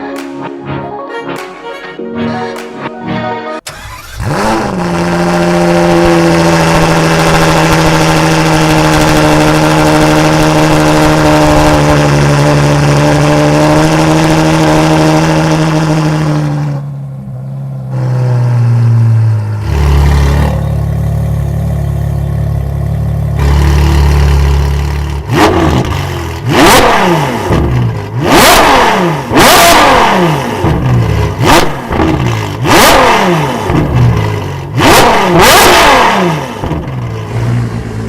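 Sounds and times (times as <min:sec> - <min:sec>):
car engine starting and idling: 0:03.6 - 0:38.0.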